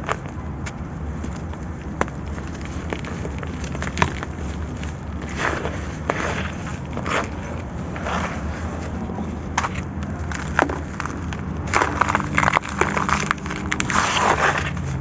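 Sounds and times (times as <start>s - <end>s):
sand-cement chunks crumbling: 0.0s - 15.0s.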